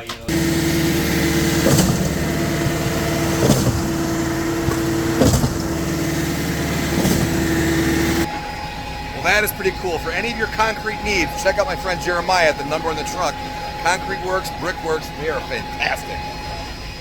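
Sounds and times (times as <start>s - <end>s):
concrete mixer truck humming: 0.1s - 17.0s.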